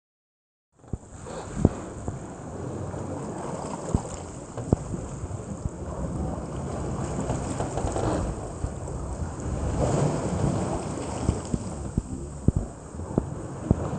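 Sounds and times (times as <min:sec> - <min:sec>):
wind on microphone: 0:00.8 - 0:13.9
paddles splashing in water: 0:00.9 - 0:13.9.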